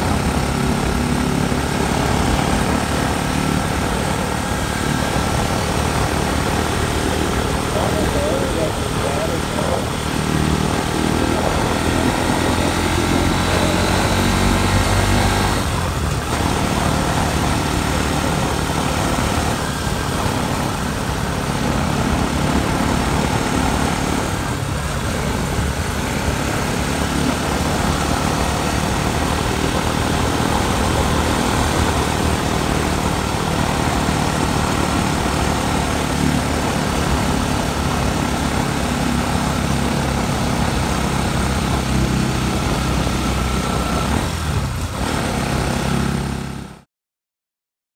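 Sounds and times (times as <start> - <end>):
motorcycle engine running: 0.0 - 46.8.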